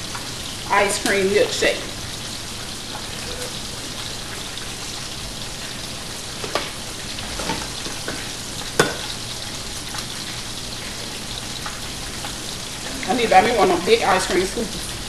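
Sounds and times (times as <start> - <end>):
food sizzling in pans: 0.0 - 15.0.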